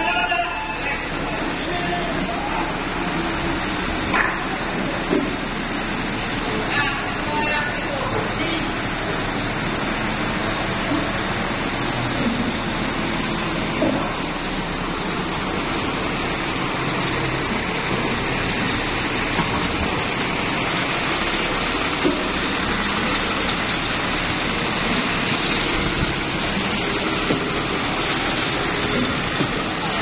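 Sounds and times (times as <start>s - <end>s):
forklift diesel engine running: 0.0s - 30.0s.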